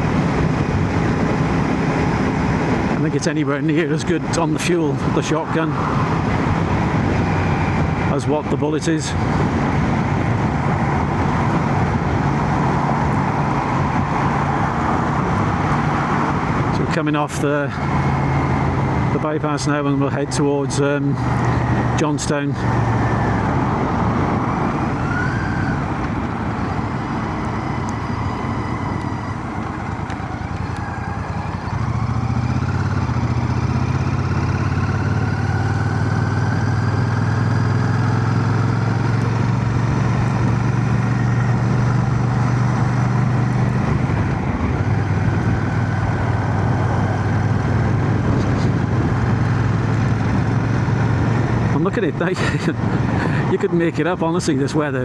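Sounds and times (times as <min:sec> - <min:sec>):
wind noise: 0:00.0 - 0:20.3, 0:21.0 - 0:55.0
motorcycle engine running: 0:09.2 - 0:53.6.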